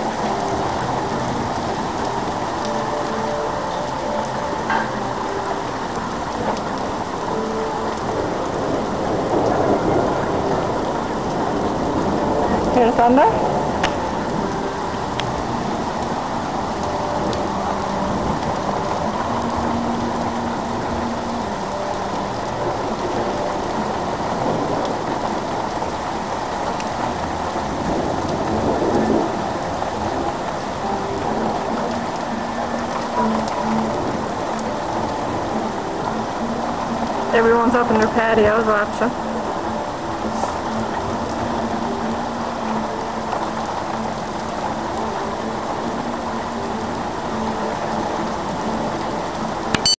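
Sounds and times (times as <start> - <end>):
heavy rain downpour: 0.0 - 50.0.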